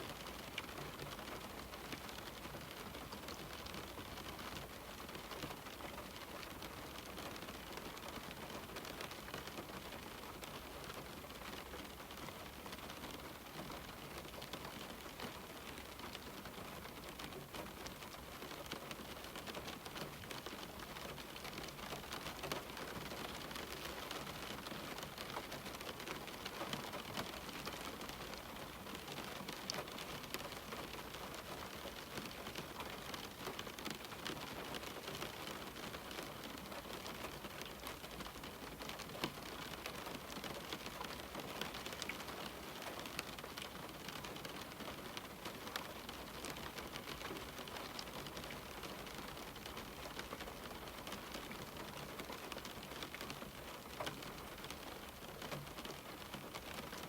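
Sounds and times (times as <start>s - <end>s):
rain on a window pane: 0.0s - 57.0s.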